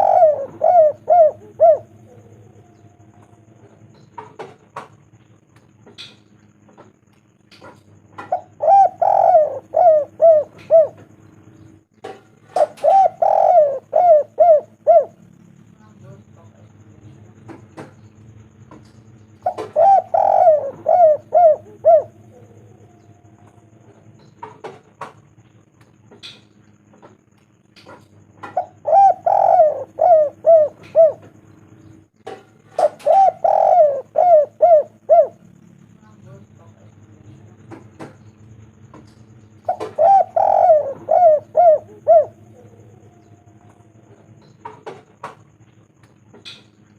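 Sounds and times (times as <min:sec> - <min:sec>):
dove cooing: 0:00.0 - 0:15.7, 0:16.9 - 0:25.6, 0:26.2 - 0:46.8.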